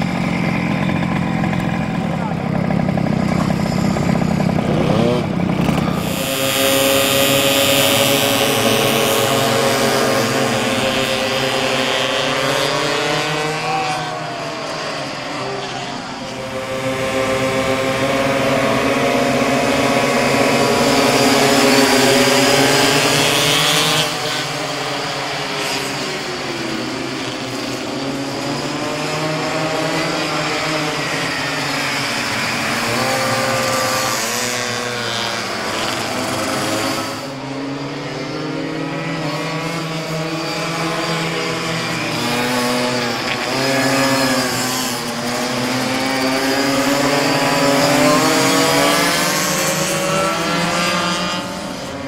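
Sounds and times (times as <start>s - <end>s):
small two-stroke engines revving: 0.0s - 52.0s.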